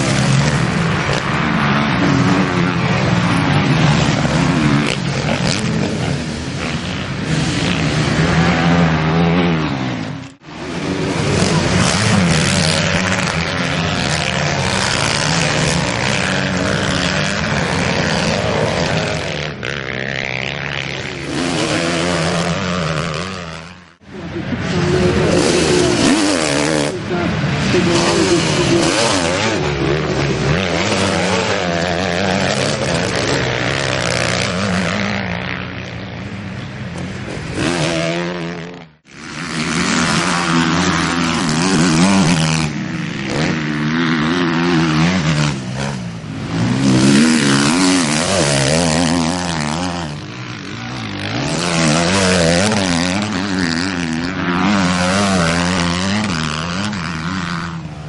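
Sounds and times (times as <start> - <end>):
motocross engines revving: 0.0 - 58.0.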